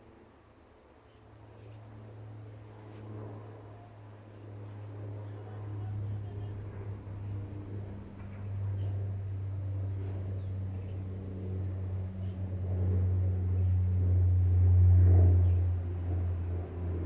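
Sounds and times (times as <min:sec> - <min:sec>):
low engine hum: 0:03.1 - 0:17.0.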